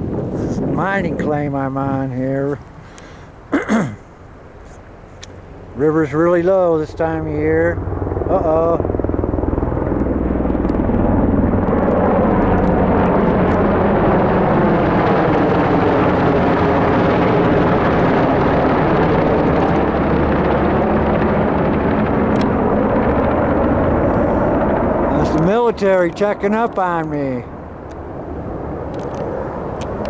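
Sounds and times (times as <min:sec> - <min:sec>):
helicopter flying overhead: 0:00.0 - 0:30.0.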